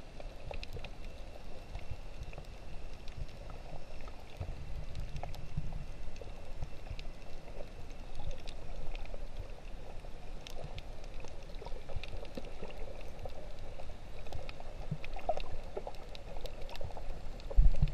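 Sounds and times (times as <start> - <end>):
muffled underwater water wash: 0.0 - 17.9
small underwater clicks and crackles: 0.0 - 17.9.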